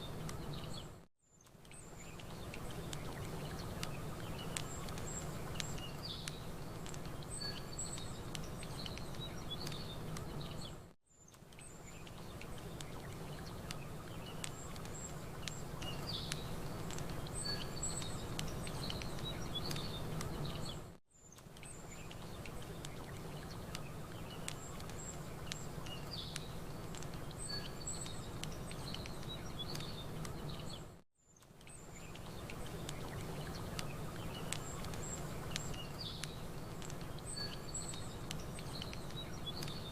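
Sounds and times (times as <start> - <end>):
campfire crackling: 0.0 - 30.9, 31.5 - 39.9
small birds chirping: 0.0 - 39.9.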